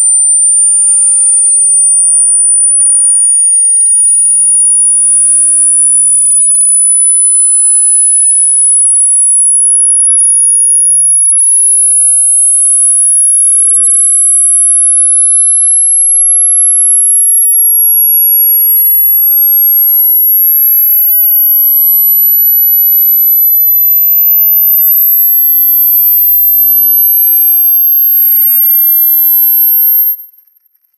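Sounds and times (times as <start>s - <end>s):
high-pitched electronic test tone: 0.0s - 30.9s.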